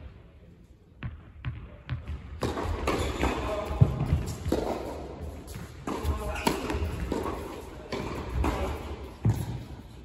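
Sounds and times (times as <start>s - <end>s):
tennis ball bouncing on hard court: 1.0s - 9.8s.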